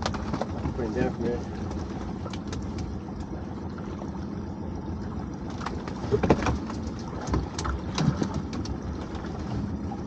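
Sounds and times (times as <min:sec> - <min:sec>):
boat engine rumble: 0:00.0 - 0:10.0.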